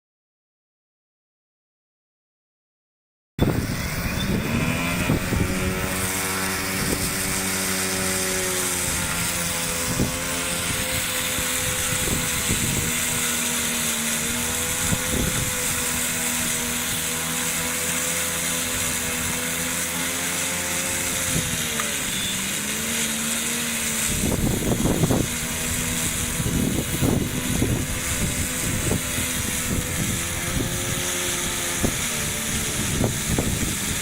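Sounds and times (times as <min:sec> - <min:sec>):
robotic mower motor whine: 0:03.4 - 0:34.0.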